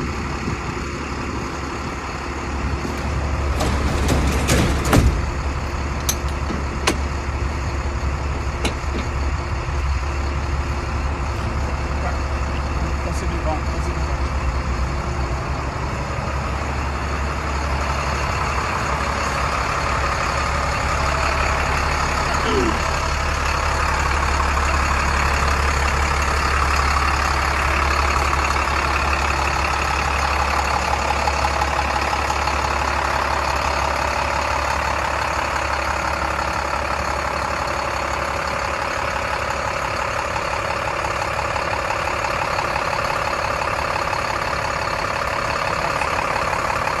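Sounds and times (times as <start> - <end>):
diesel truck engine idling: 0.0 - 47.0.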